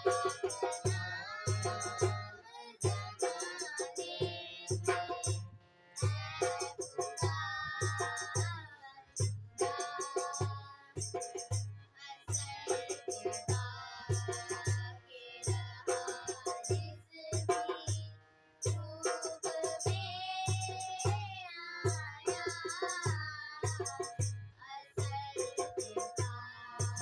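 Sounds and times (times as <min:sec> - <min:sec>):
girls singing: 0:00.0 - 0:05.4, 0:06.0 - 0:27.0
rattling percussion: 0:00.0 - 0:08.6, 0:09.2 - 0:14.8, 0:18.6 - 0:27.0.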